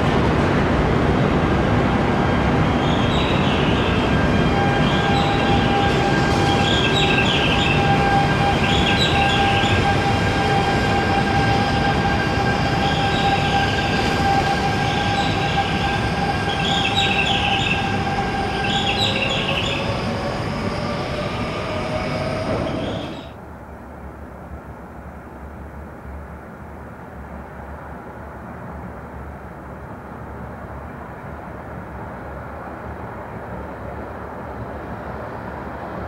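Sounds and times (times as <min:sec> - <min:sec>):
electric train rumble and whine: 0:00.0 - 0:36.0.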